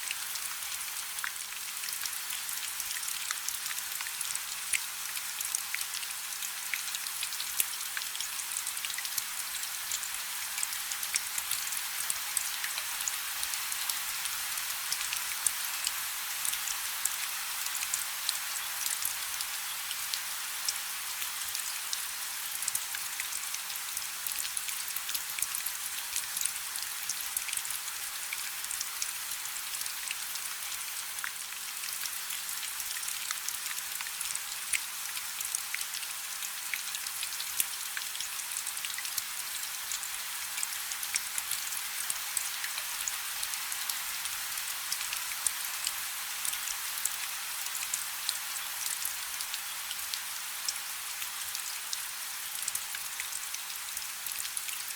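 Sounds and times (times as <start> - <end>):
rain falling on a river: 0.0 - 54.9.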